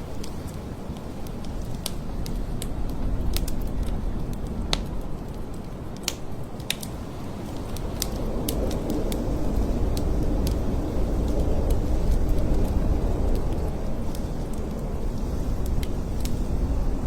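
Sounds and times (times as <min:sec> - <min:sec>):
sharp ticks and crackles: 0:00.0 - 0:16.9
blizzard wind blowing: 0:00.0 - 0:17.0.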